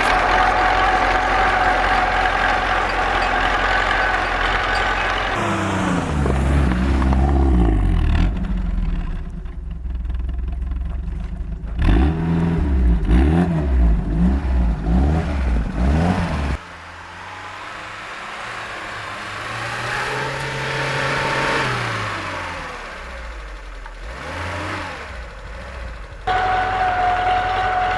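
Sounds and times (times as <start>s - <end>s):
car engine revving and idling: 0.0s - 27.9s.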